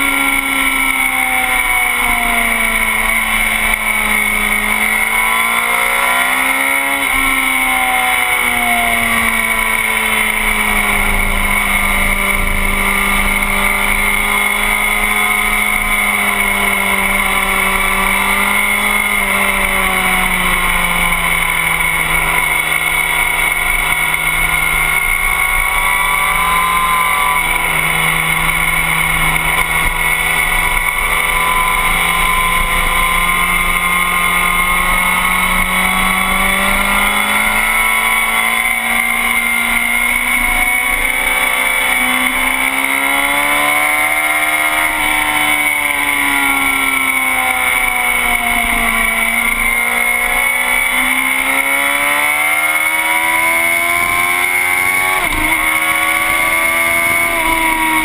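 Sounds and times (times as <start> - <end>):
motorcycle engine revving: 0.0 - 58.0
steady high whine: 0.0 - 58.0.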